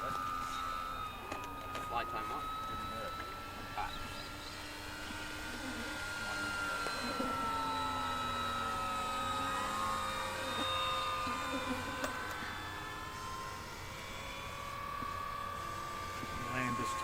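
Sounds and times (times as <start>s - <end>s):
model plane motor whine: 0.0s - 17.0s.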